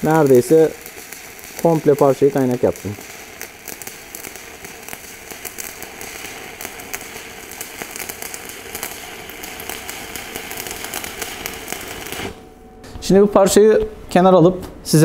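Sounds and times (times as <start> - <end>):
welding arc crackling: 0.0 - 12.5.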